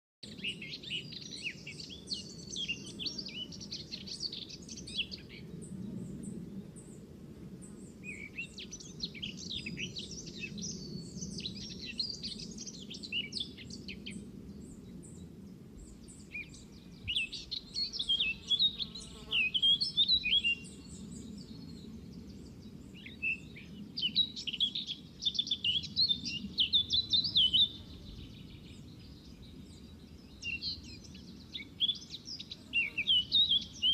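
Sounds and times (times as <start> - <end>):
small birds twittering: 0.2 - 7.0, 7.6 - 33.9.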